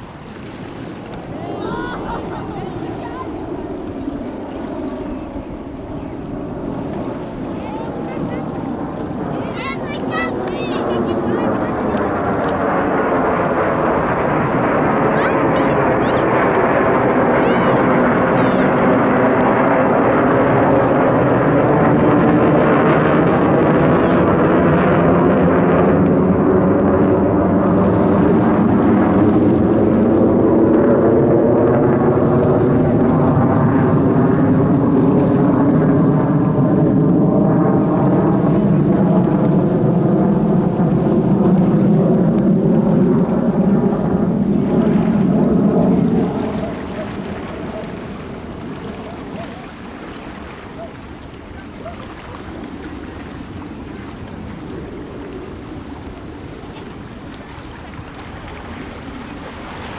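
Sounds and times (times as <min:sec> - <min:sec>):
aircraft engine roar overhead: 0:00.0 - 0:59.9.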